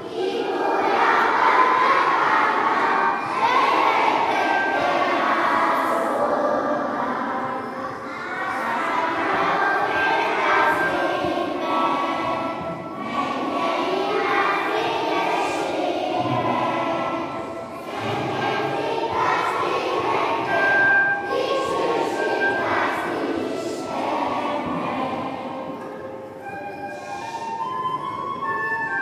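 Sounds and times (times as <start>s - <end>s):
group of voices singing: 0.0s - 26.1s.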